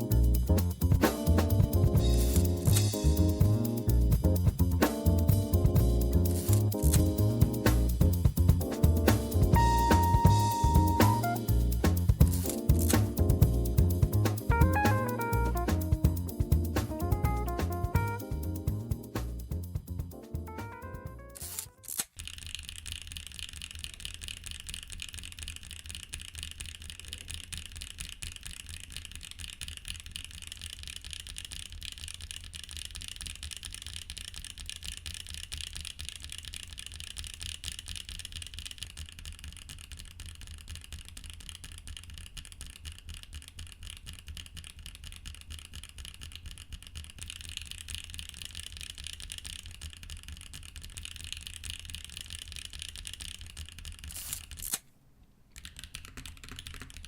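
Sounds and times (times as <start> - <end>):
fast typing on mechanical keyboard: 0.0 - 54.8, 55.5 - 57.0.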